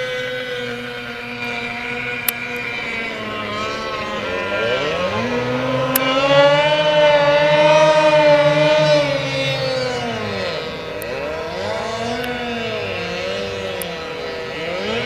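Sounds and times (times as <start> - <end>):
outboard boat engine running: 0.0 - 15.0.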